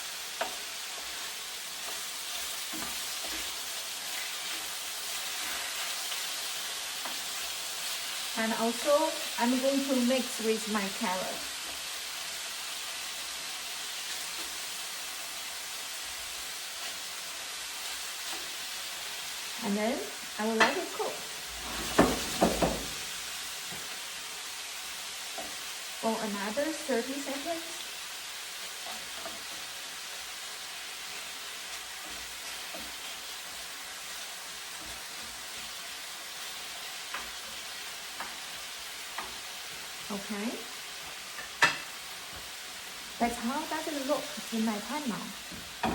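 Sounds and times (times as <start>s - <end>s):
food sizzling in a frying pan: 0.0s - 45.9s.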